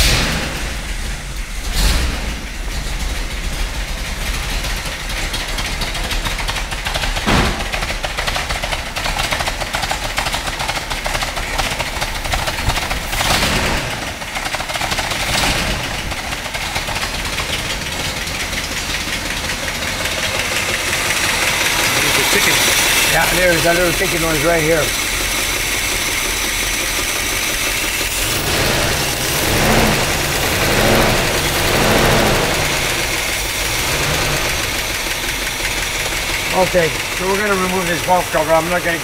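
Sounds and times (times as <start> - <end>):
car engine starting and idling: 0.0 - 39.0
engine ticking: 0.0 - 39.0.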